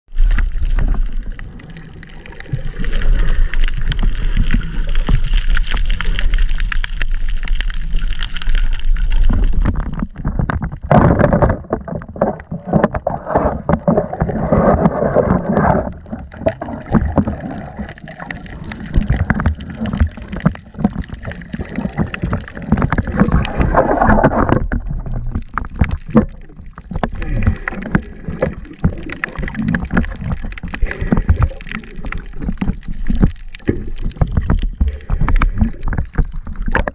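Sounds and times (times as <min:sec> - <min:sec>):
underwater water churning: 0:00.1 - 0:36.9.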